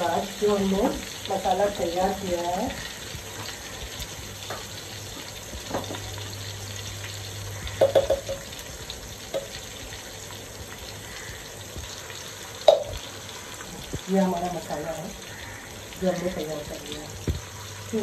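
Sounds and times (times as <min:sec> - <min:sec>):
onions frying in oil: 0:00.0 - 0:18.0.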